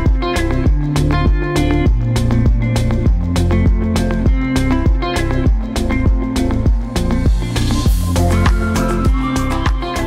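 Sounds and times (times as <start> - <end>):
background music with beat: 0.0 - 10.0
bass line: 0.0 - 10.0.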